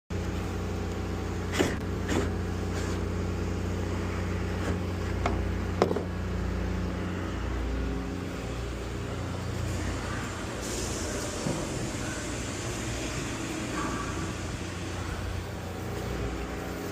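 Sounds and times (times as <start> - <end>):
machinery humming: 0.1 - 16.9.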